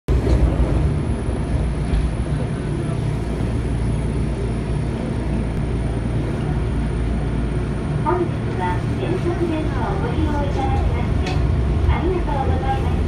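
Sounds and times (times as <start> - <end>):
train interior rumble and hum: 0.1 - 13.0.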